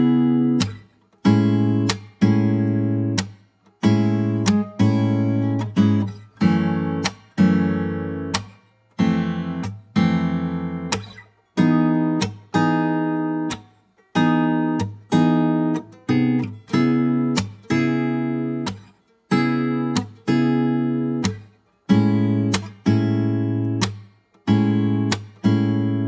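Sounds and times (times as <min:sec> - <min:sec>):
strummed acoustic guitar chords: 0:00.0 - 0:26.0.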